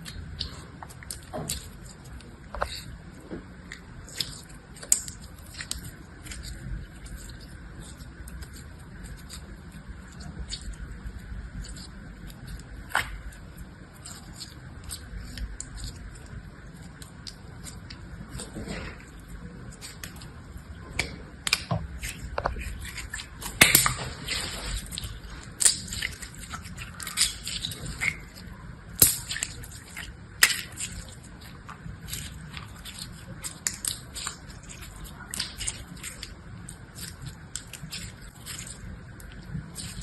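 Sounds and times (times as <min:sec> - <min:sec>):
slime clicking and crackling: 0:00.0 - 0:40.0.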